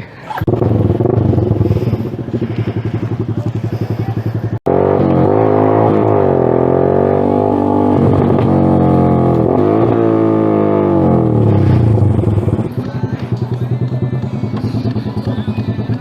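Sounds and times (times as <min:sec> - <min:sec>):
engine burble on the overrun: 0:00.0 - 0:16.0
motorcycle engine accelerating: 0:00.3 - 0:16.0.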